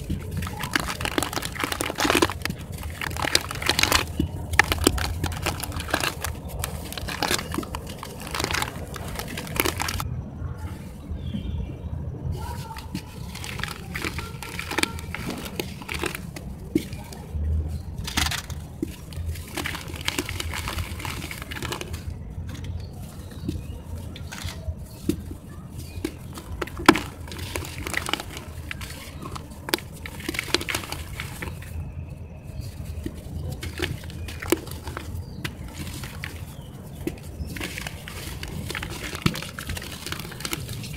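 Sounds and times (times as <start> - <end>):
crunching and crackling cement mix: 0.0 - 40.9
wet squelches: 0.0 - 40.9.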